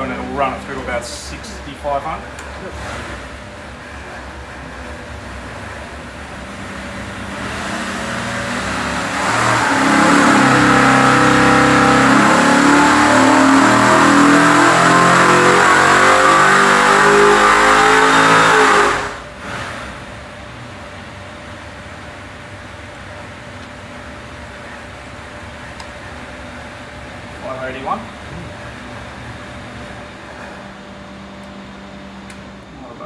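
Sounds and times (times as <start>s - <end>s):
engine revving on a dyno: 0.0s - 22.5s, 23.2s - 33.0s.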